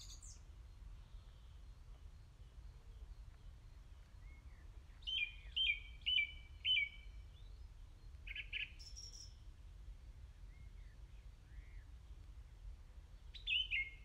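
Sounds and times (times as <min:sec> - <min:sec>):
small songbird singing: 0:00.0 - 0:09.4, 0:10.4 - 0:12.2, 0:13.2 - 0:14.0.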